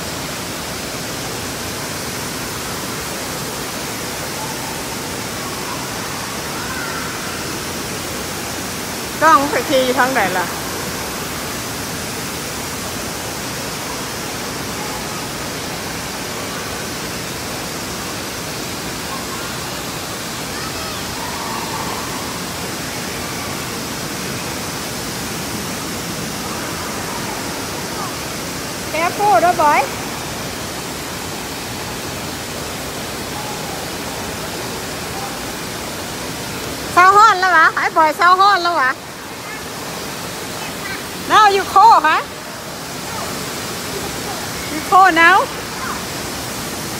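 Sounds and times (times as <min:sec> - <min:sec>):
water pouring and flowing: 0:00.0 - 0:46.9.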